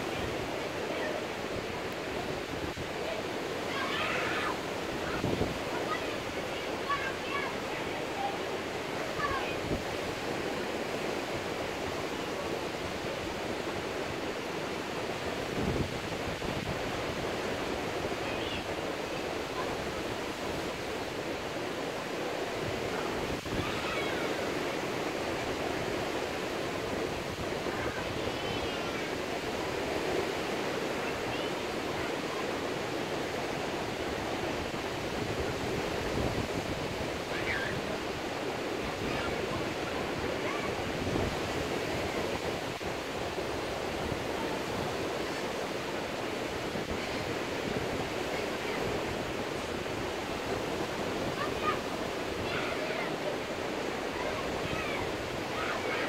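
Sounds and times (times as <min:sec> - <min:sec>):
waves washing on beach: 0:00.0 - 0:56.0.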